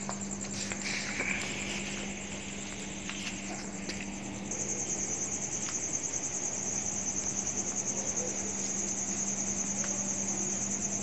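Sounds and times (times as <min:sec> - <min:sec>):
cricket trilling: 0:00.0 - 0:11.0
steady low hum: 0:00.0 - 0:11.0.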